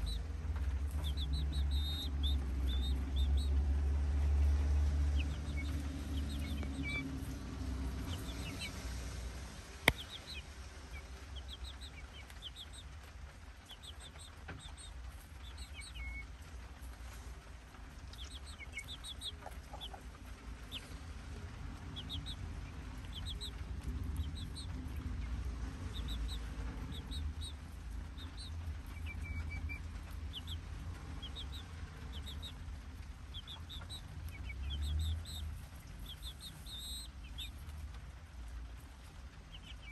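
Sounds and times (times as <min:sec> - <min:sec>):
chicks peeping: 0:00.0 - 0:39.9
steady low rumble: 0:00.0 - 0:39.9.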